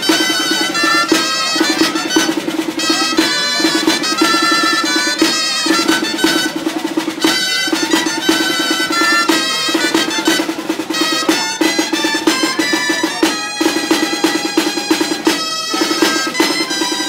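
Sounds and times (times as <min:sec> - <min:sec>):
reedy wind instruments: 0:00.0 - 0:17.0
snare drum rolling: 0:00.0 - 0:17.0.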